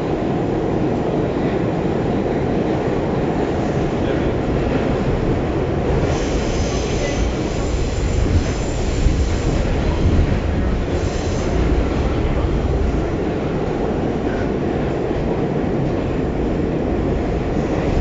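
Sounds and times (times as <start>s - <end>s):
subway wheels rumbling on rails: 0.0s - 18.0s.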